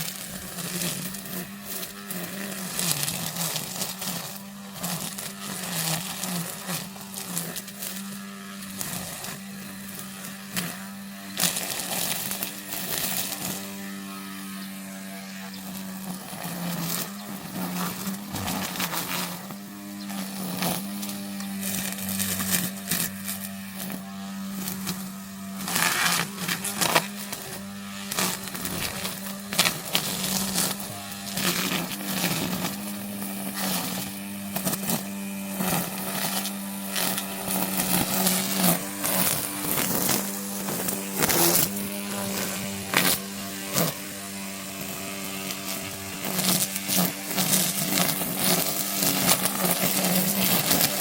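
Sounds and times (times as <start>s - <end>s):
brush cutter cutting vegetation: 0.0s - 51.0s
brush cutter motor hum: 0.0s - 51.0s.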